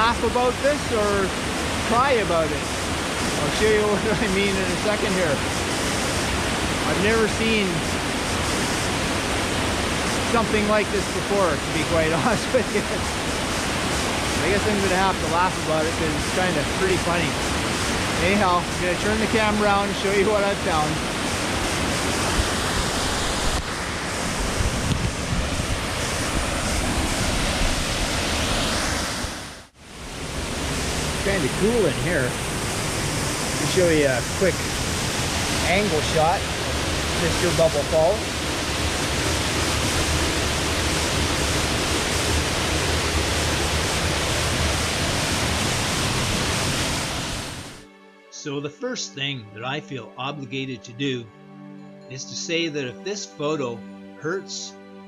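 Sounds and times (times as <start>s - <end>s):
waterfall rushing: 0.0s - 47.8s.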